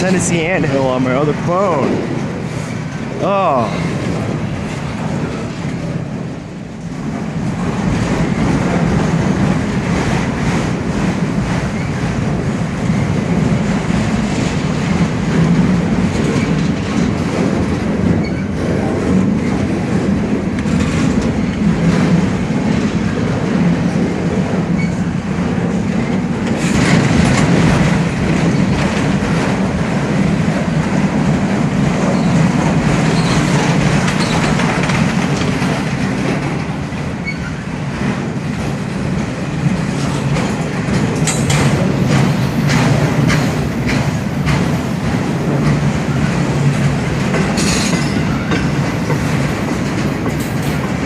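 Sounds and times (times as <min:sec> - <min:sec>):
train wheels rumbling on rails: 0:00.0 - 0:51.0
wheels clicking over rail joints: 0:07.1 - 0:51.0.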